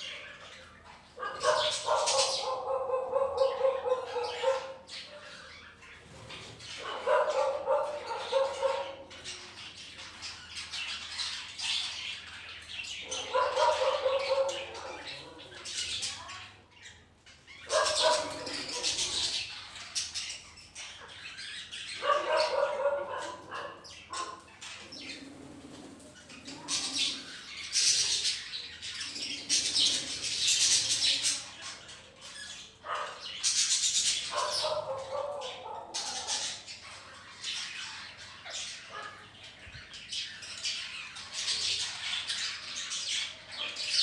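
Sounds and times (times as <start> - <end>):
budgerigars chattering and chirping: 0.0 - 44.0.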